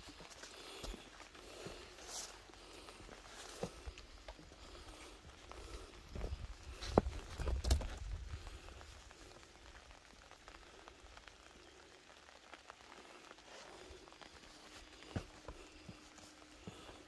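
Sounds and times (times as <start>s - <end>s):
light rain on plants: 0.0s - 17.0s.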